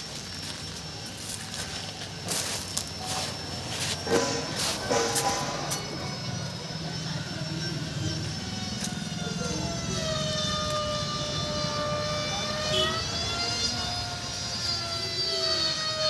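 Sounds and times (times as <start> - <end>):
low mechanical rumble: 0.0 - 15.2
wavering mechanical whine: 0.0 - 16.0.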